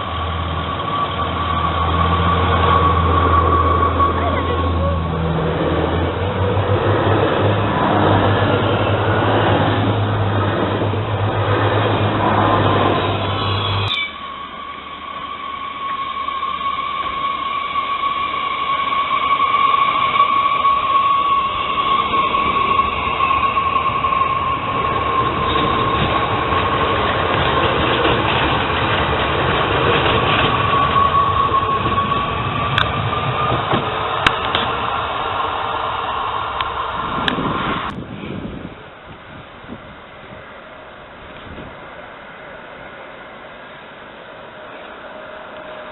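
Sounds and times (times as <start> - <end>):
train high whine: 0.0 - 45.9
train rumbling on rails: 0.0 - 45.9.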